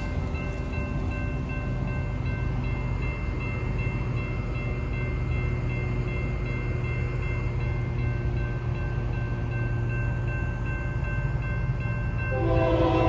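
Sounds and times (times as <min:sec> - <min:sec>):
crossing warning bell ringing: 0:00.0 - 0:13.0.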